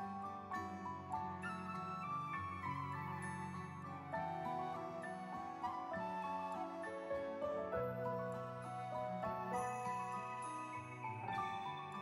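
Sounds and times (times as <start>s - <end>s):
gentle background music: 0.0s - 12.0s.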